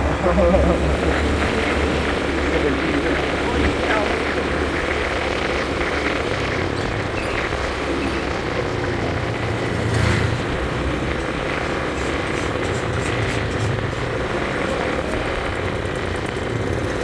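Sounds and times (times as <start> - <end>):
motorcycles passing: 0.0 - 17.0
road and wind noise: 0.0 - 17.0
scooter engine running: 0.0 - 17.0.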